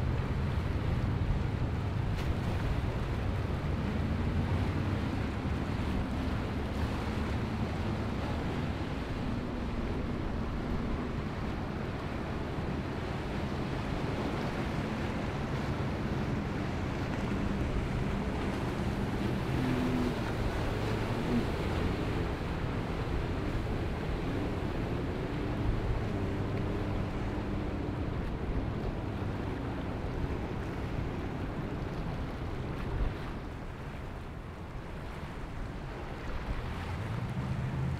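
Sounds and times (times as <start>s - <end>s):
boat engine drone: 0.0s - 37.9s
bow wave and wake rushing: 0.0s - 37.9s
wind on microphone: 0.0s - 37.9s.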